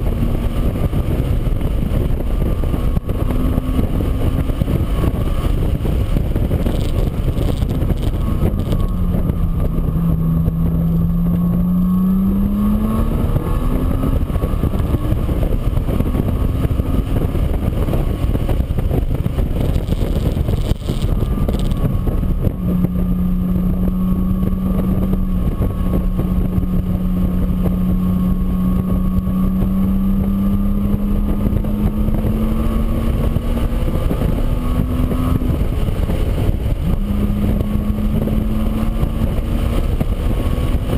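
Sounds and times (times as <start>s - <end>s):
engine running: 0.0s - 40.9s
heavy rushing noise: 0.0s - 40.9s.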